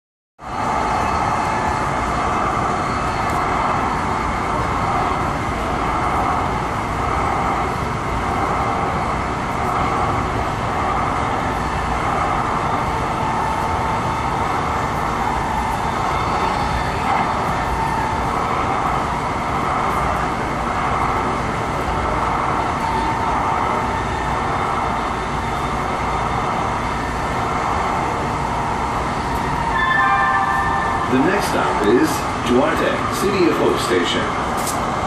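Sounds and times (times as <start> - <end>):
train wheels rumbling on rails: 0.4 - 35.0.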